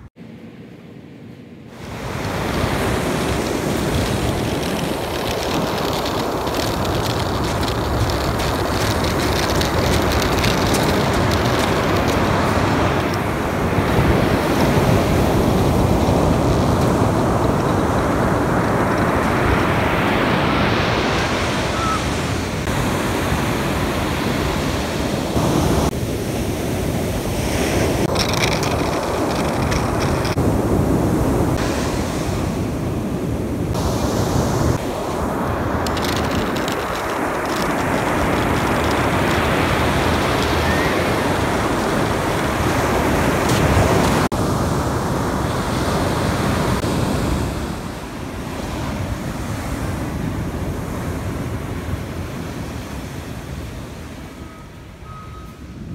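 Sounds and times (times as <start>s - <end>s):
ocean surf breaking: 1.7s - 55.1s
wind buffeting microphone: 1.7s - 55.9s.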